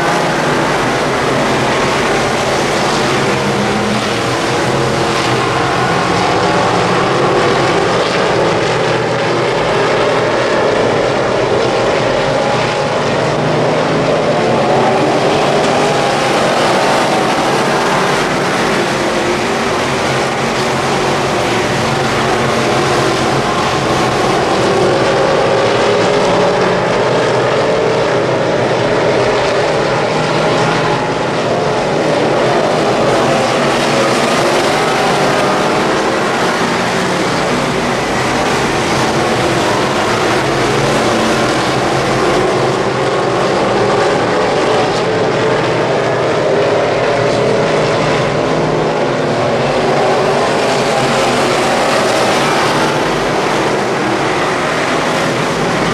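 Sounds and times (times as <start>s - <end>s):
race car engines at speed: 0.0s - 55.9s.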